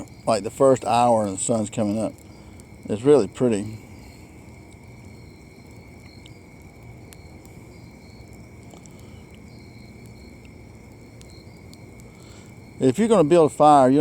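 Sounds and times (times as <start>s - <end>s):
crickets trilling: 0.0s - 14.0s
faint campfire pops: 0.0s - 14.0s.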